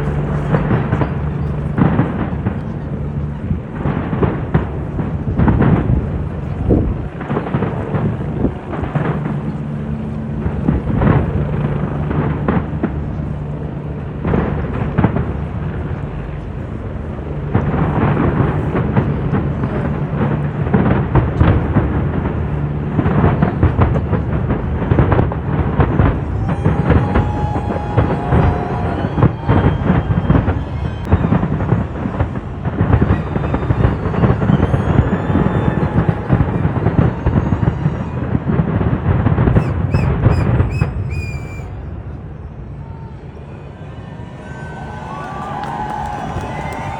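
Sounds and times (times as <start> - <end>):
fireworks bangs and crackles: 0.0 - 42.3, 44.8 - 46.9
deep rumble: 0.0 - 43.4.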